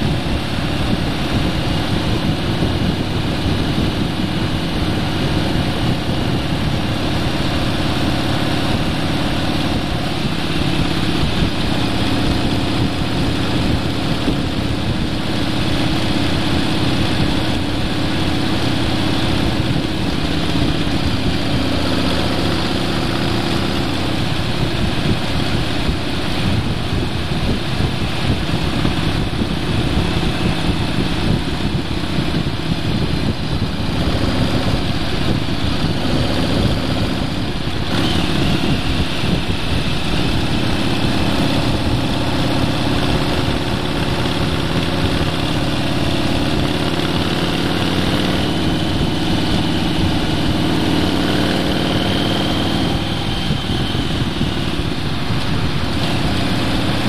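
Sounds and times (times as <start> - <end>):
vehicle engine running: 0.0 - 57.0
wind and road noise: 0.0 - 57.0.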